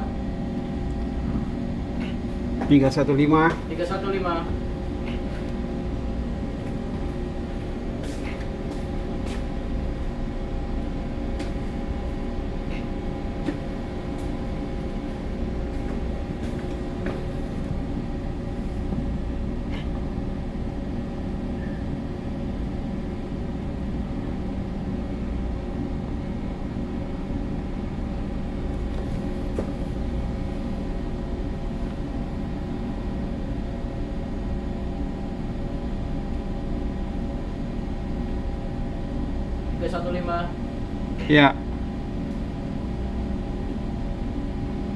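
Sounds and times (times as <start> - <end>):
ship engine hum and rumble: 0.0 - 44.9.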